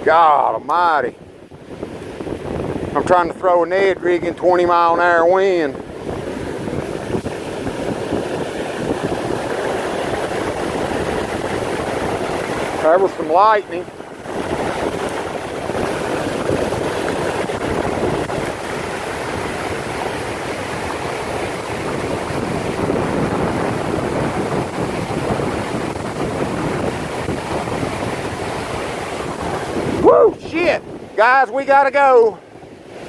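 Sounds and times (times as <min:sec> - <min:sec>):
strong wind on microphone: 0:00.0 - 0:33.0.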